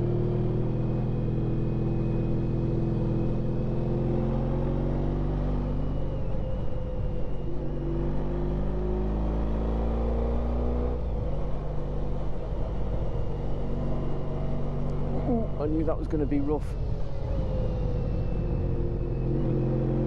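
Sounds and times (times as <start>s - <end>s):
wind and road noise: 0.0s - 20.0s.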